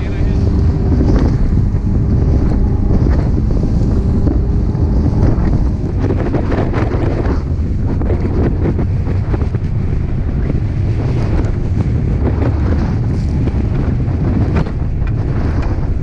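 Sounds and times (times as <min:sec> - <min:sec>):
boat engine low rumble: 0:00.0 - 0:16.0
wind buffeting microphone: 0:00.0 - 0:16.0.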